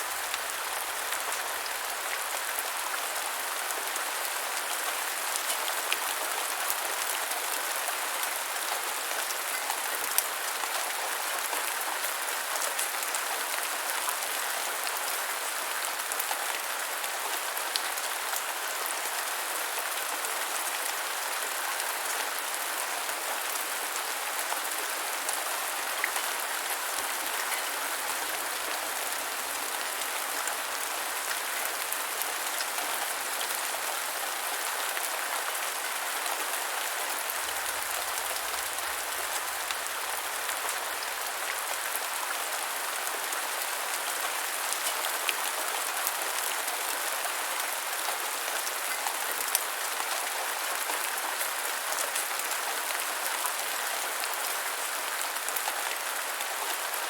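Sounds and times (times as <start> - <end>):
rain falling on ground: 0.0 - 57.0.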